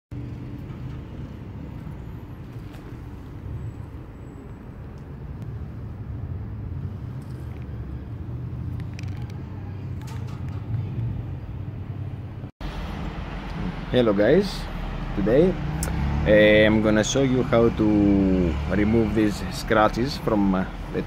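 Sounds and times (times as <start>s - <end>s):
distant road traffic rumble: 0.1s - 21.0s.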